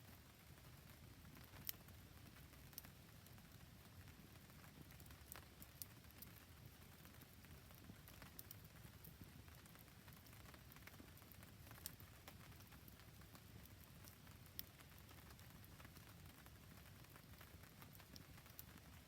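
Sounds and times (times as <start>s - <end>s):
faint rain falling: 0.0s - 19.0s
campfire crackling: 0.1s - 19.0s.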